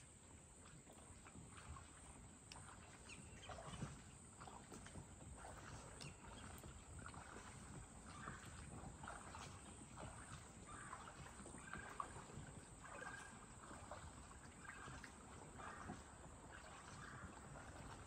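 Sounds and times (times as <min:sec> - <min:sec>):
water lapping and gurgling: 0:00.0 - 0:18.0.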